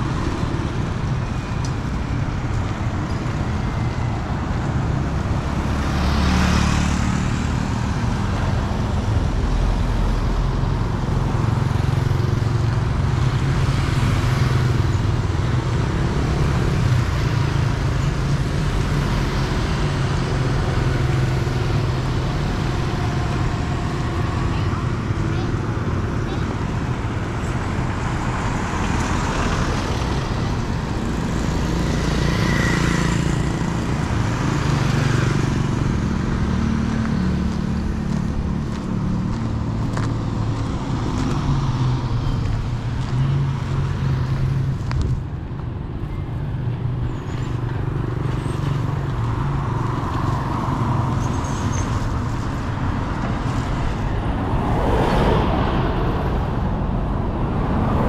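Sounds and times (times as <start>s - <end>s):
street traffic rumble: 0.0s - 58.0s.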